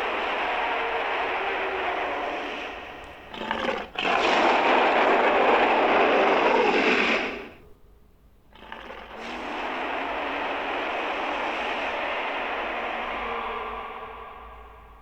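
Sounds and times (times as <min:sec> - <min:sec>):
dinosaur roar: 0:00.0 - 0:07.6, 0:08.6 - 0:15.0.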